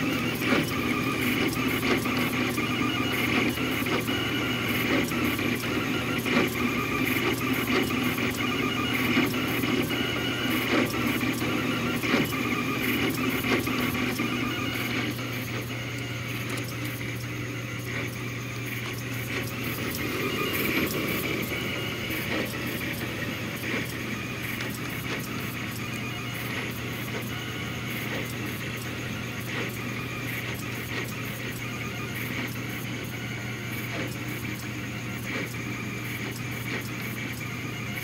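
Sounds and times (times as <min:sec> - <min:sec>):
stepper motors whirring and chirping: 0:00.0 - 0:38.0.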